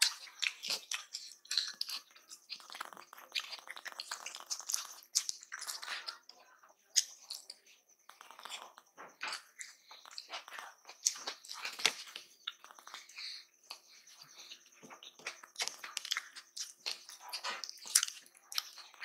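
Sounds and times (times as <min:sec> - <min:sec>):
fingers squishing rice: 0:00.0 - 0:19.0
wet chewing and mouth smacking: 0:00.0 - 0:19.0.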